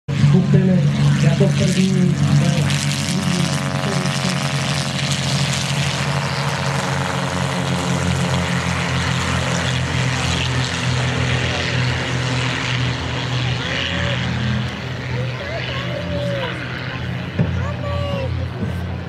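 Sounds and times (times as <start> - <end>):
propeller aircraft engine drone: 0.1 - 19.0.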